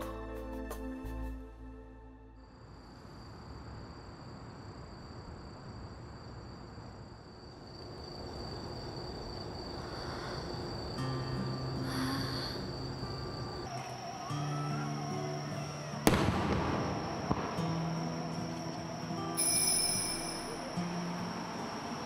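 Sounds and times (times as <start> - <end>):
low hum of evening ambience: 0.0 - 22.0
crickets trilling: 2.3 - 22.0.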